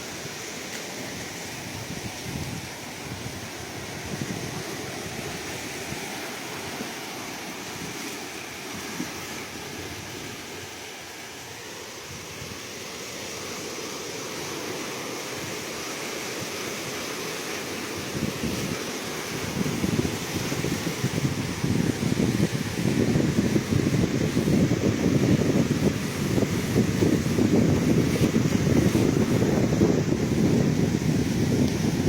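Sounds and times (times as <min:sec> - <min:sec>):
ocean surf waves washing in: 0:00.0 - 0:32.0.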